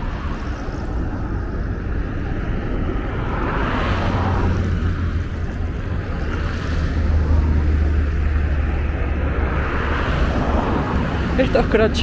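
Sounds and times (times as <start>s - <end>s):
road noise: 0.0s - 12.0s
vehicle passing: 0.0s - 12.0s
wind rumbling on microphone: 0.0s - 12.0s.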